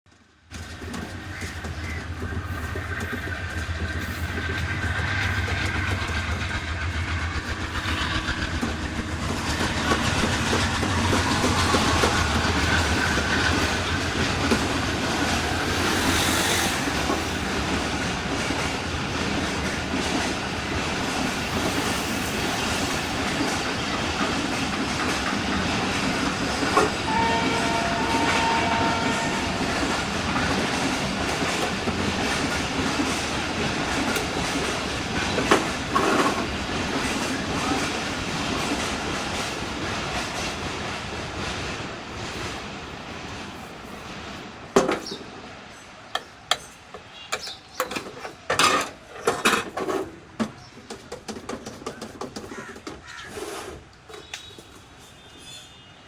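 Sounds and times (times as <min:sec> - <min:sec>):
train rumble and clickety-clack: 0:00.1 - 0:55.7.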